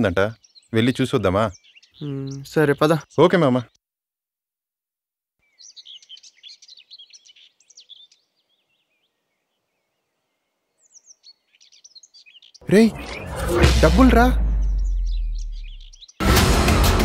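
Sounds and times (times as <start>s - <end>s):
small birds chirping: 0.0s - 3.8s, 5.4s - 16.2s.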